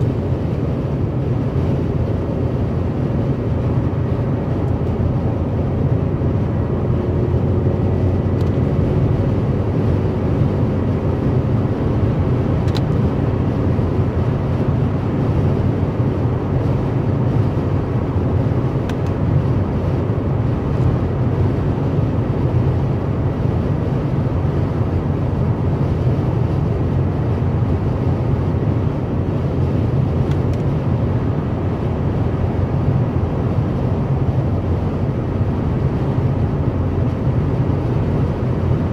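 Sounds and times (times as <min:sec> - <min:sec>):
car engine hum: 0:00.0 - 0:38.9
road and tyre noise: 0:00.0 - 0:38.9.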